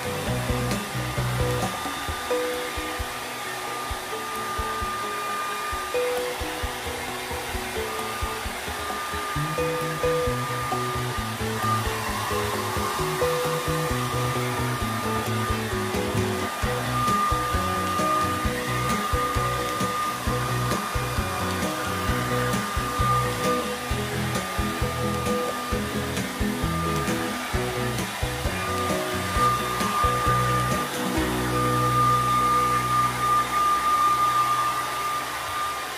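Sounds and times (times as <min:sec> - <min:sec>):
background music: 0:00.0 - 0:35.4
hair dryer blowing: 0:00.0 - 0:35.9.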